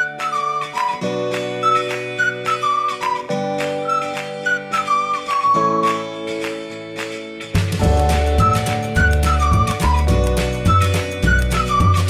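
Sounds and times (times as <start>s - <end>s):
flute-like melody with slides: 0.0s - 6.5s, 7.8s - 12.0s
plucked accompaniment: 0.0s - 12.0s.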